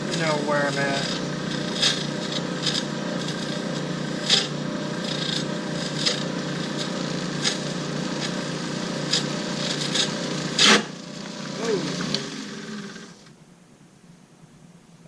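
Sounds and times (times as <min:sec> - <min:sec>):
turning tool scraping wood: 0:00.0 - 0:13.2
lathe humming: 0:00.0 - 0:13.3.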